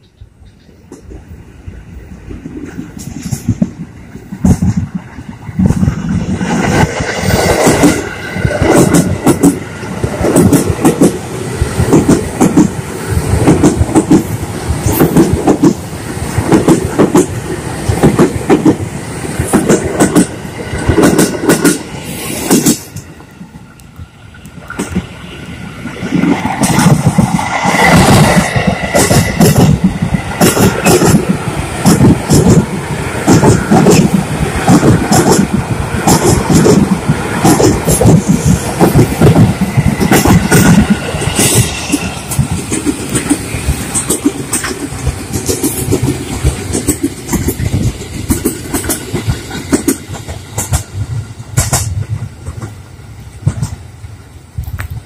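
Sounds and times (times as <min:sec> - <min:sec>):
train wheels clattering over rail joints: 0:02.3 - 0:23.2, 0:25.9 - 0:52.8.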